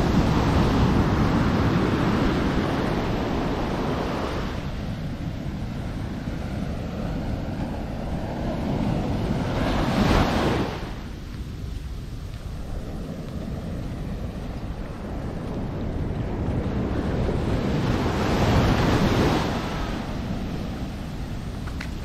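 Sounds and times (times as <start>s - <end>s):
surf rushing on a beach: 0.0s - 22.0s
wind buffeting microphone: 0.0s - 22.0s.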